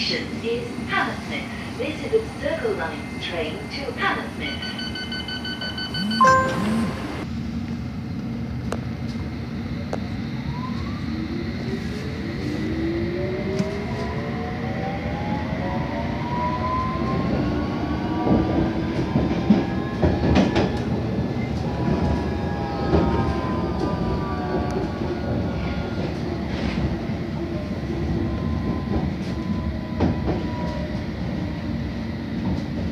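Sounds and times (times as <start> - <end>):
wheels rumbling on rail: 0.0 - 32.9.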